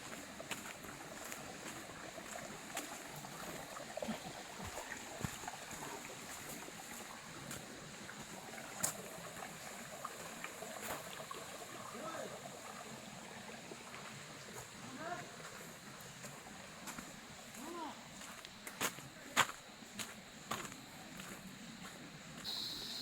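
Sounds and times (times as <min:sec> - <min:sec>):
water running over rocks: 0:00.0 - 0:20.6.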